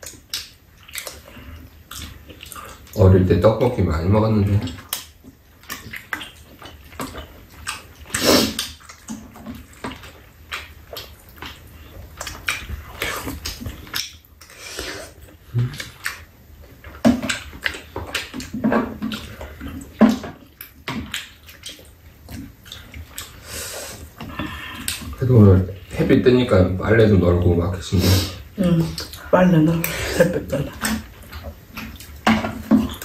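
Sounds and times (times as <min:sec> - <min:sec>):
wet chewing and slurping: 0:00.0 - 0:03.0, 0:04.4 - 0:27.1, 0:27.8 - 0:33.0.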